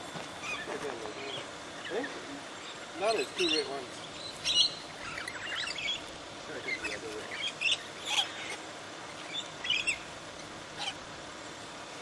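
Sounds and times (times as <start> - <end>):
parrots chirping and squawking: 0.4 - 10.1, 10.7 - 11.1.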